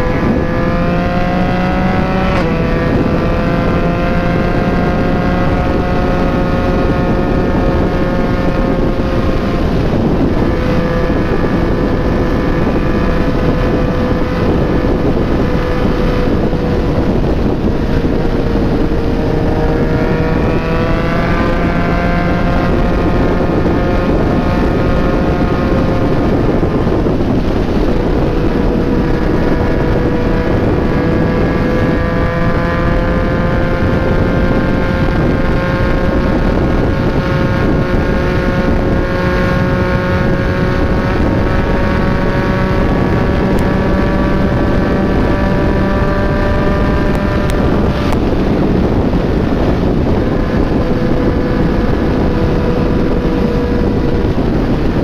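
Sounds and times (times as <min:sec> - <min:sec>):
motorcycle engine cruising: 0:00.0 - 0:55.0
wind rushing over microphone: 0:00.0 - 0:55.0.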